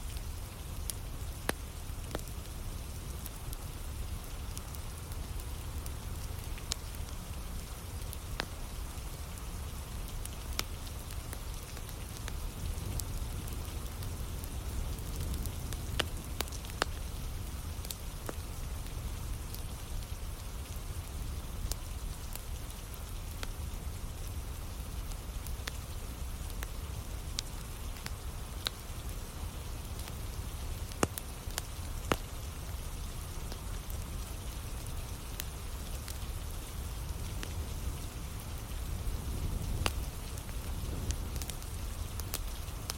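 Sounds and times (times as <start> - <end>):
campfire crackling and popping: 0.0 - 42.9
steady rain falling: 0.0 - 42.9.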